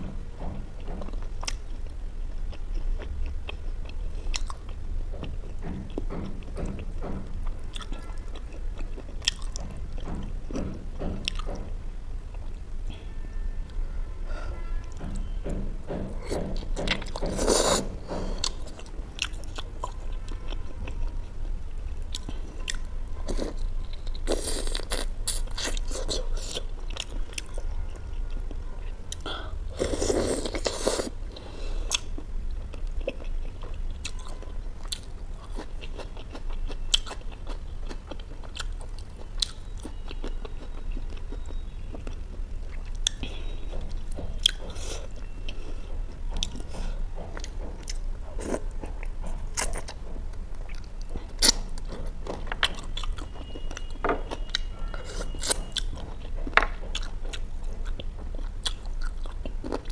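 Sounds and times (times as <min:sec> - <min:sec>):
person chewing chicken: 0:02.5 - 0:06.9, 0:07.5 - 0:10.6, 0:16.3 - 0:21.1, 0:22.1 - 0:59.9.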